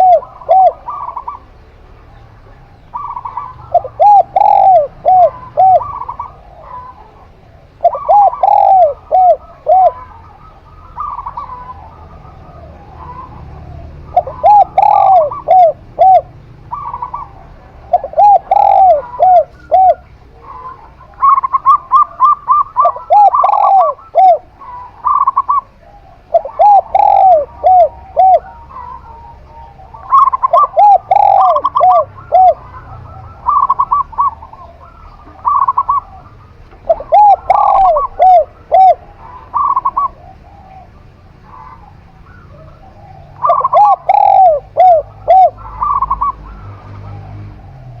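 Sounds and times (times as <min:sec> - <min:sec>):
doves cooing: 0:00.0 - 0:48.0.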